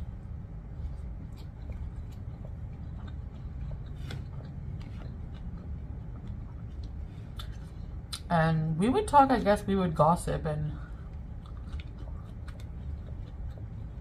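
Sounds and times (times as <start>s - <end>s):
chewing noodles: 0.0s - 8.2s, 10.9s - 14.0s.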